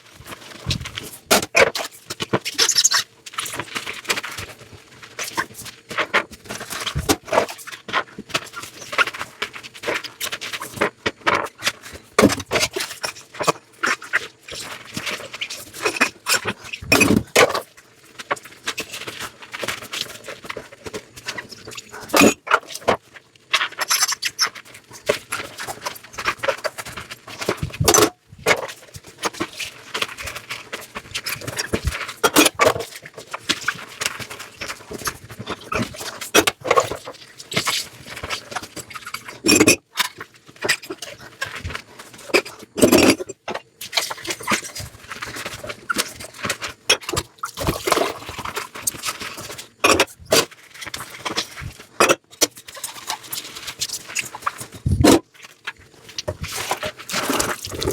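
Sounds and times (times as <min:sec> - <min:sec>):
scrubbing and scraping dishes: 0:00.2 - 0:57.9.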